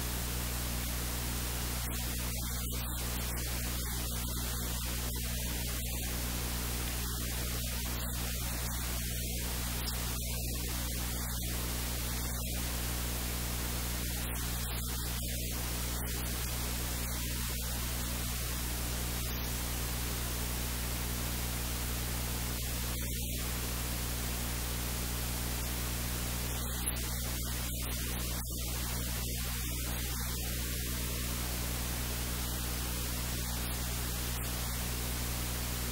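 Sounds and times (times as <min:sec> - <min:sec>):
low electrical hum: 0:00.0 - 0:35.9
static hiss: 0:00.0 - 0:35.9.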